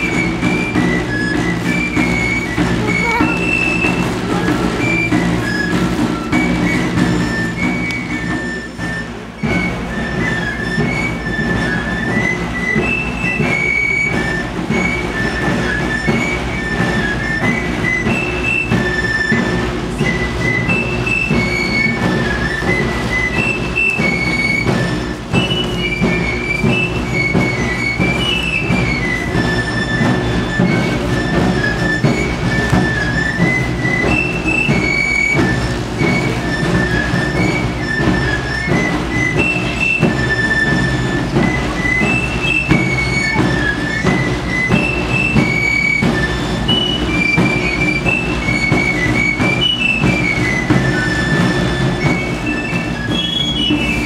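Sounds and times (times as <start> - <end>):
shrill pipe melody: 0.0 - 54.0
snare drum beat: 0.0 - 54.0.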